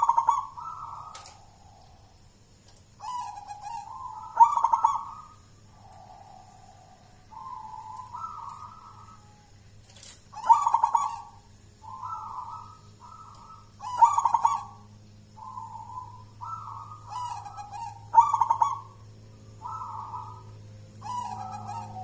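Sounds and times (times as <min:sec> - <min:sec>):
dove cooing: 0:00.0 - 0:22.0
dove stuttering notes: 0:02.9 - 0:09.6, 0:10.3 - 0:22.0.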